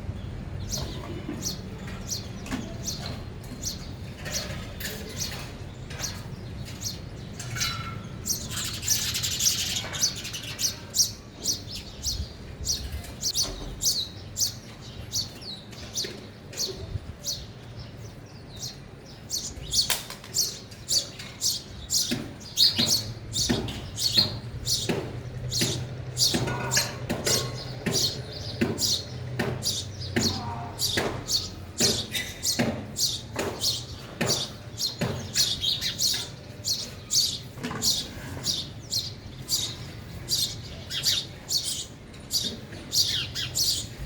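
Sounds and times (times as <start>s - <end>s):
sparrows chirping: 0.0s - 44.0s.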